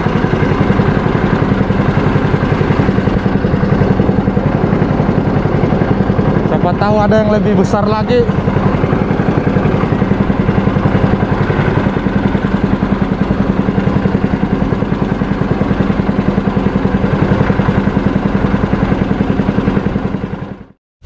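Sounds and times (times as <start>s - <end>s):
small boat engine running: 0.0s - 20.8s.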